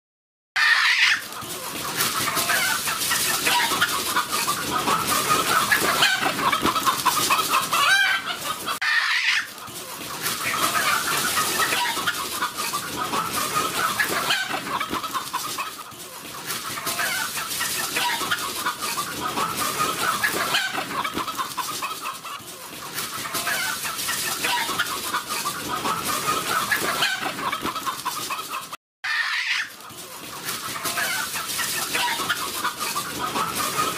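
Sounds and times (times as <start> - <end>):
chickens clucking: 0.6 - 33.9.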